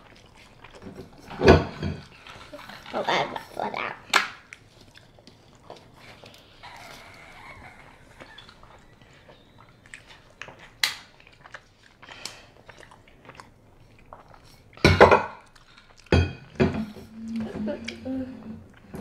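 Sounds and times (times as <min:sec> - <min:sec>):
chewing and lip-smacking: 0:00.0 - 0:18.0.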